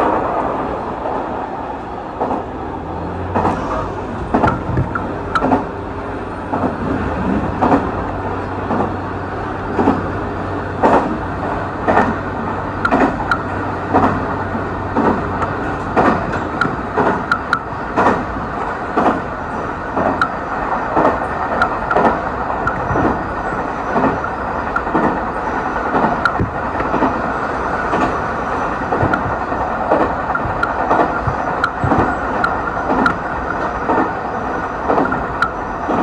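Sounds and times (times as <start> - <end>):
train cabin rumble: 0.0 - 36.0
wheels clicking over rail joints: 2.1 - 36.0.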